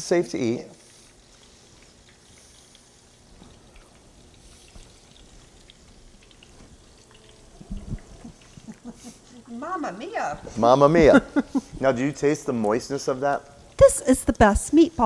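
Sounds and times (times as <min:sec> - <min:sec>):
meatballs crackling in oil: 0:00.0 - 0:15.0
oil popping: 0:00.6 - 0:15.0.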